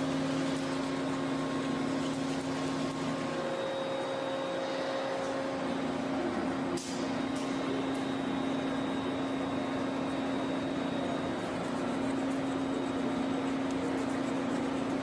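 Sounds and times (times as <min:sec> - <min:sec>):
machine humming and whirring: 0:00.0 - 0:15.0.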